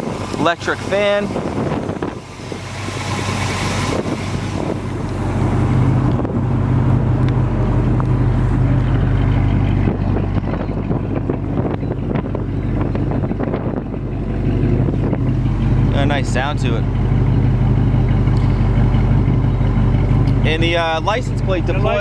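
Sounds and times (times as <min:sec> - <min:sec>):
engine idling rumble: 0:00.0 - 0:22.0.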